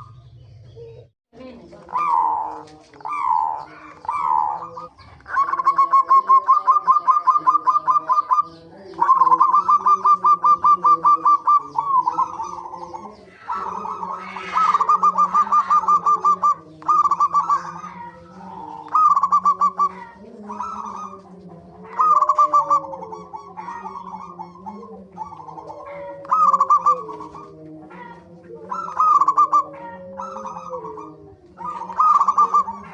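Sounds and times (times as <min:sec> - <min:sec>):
doves cooing: 0:00.0 - 0:32.9.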